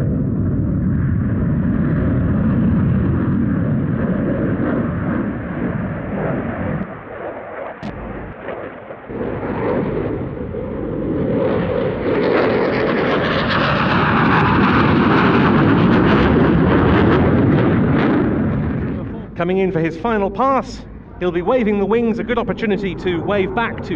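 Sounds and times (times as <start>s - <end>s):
jet engine roar: 0.0s - 23.9s.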